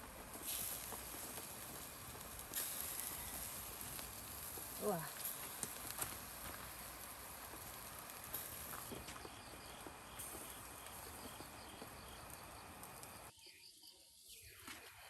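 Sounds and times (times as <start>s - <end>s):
meat hissing over charcoal: 0.0s - 13.3s
insects chirping: 0.0s - 15.0s.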